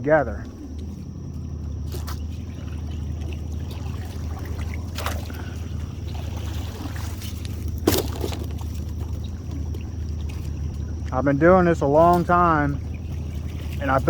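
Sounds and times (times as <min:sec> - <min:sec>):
boat motor idling: 0:00.0 - 0:14.0
water trickling and splashing: 0:00.0 - 0:14.0.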